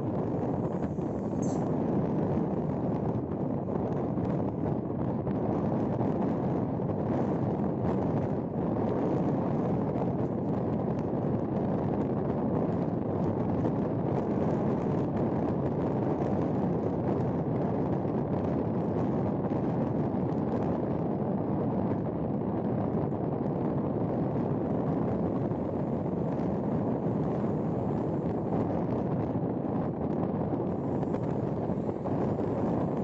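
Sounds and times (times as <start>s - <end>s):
tyre and wind noise: 0.0s - 33.0s.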